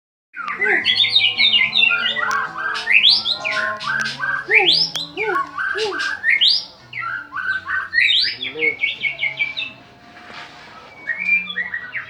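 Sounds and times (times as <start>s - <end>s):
bird singing whistled song: 0.4s - 12.0s.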